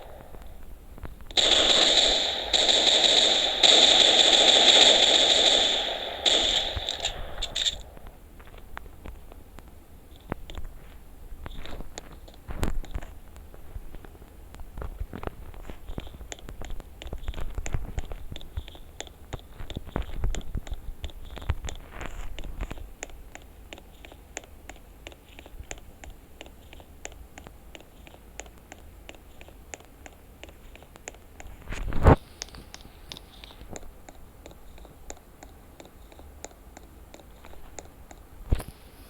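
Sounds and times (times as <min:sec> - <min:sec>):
faint evenly spaced ticks: 0:00.0 - 0:39.0
handling clicks and scraping: 0:00.0 - 0:39.0.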